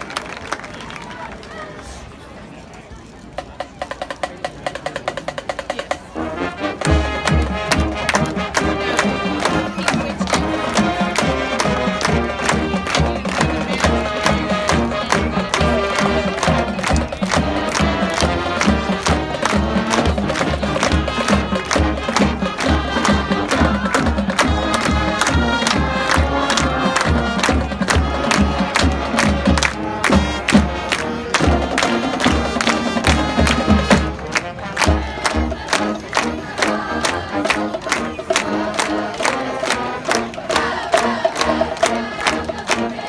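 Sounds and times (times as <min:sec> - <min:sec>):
marching band playing: 0:03.4 - 0:43.0
percussion clicking beat: 0:06.8 - 0:43.0.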